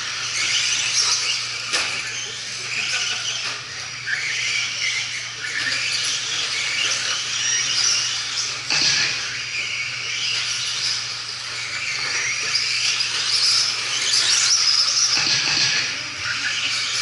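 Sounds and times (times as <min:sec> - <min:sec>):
rc truck motor whine: 0:00.0 - 0:17.0.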